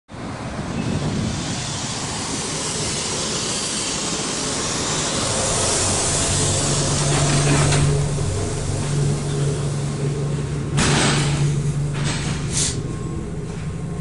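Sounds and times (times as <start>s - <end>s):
train rumbling with hiss: 0.1s - 14.0s.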